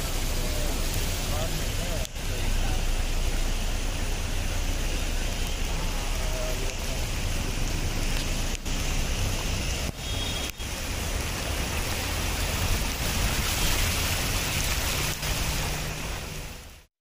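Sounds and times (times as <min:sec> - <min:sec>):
heavy rain on flooded street: 0:00.0 - 0:16.9.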